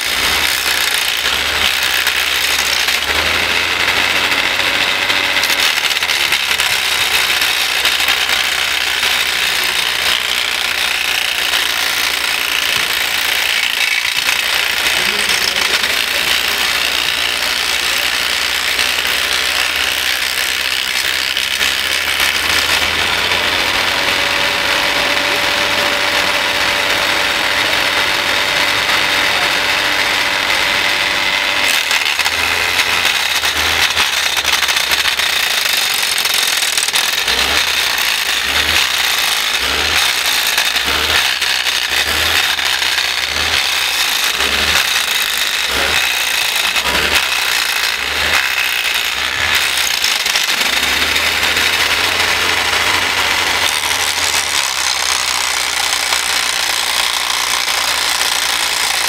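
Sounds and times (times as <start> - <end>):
model wood chipper chipping branches: 0.0 - 59.0.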